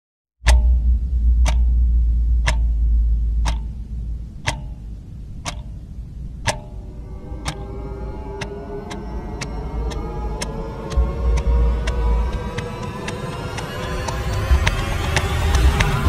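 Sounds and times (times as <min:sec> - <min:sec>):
clock ticking: 0:00.4 - 0:07.7, 0:08.4 - 0:16.0
deep low drone: 0:00.4 - 0:16.0
sustained music notes: 0:00.4 - 0:16.0.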